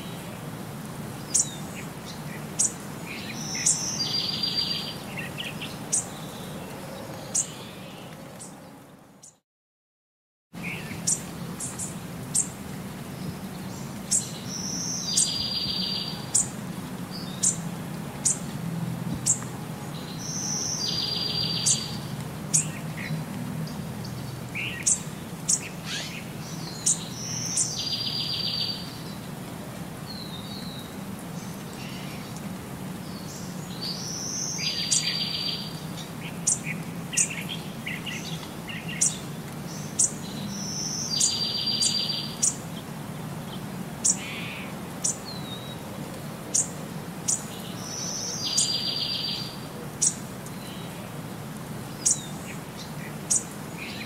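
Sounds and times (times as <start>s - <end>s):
birds chirping: 1.2s - 9.4s, 10.6s - 18.5s, 19.1s - 29.3s, 30.1s - 45.9s, 46.5s - 54.0s.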